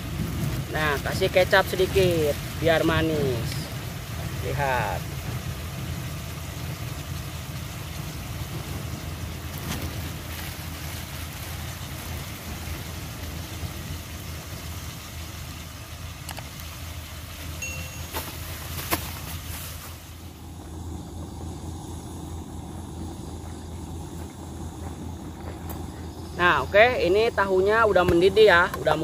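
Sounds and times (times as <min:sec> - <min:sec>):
simmering hiss: 0:00.0 - 0:29.0
stove burner rumble: 0:00.0 - 0:29.0.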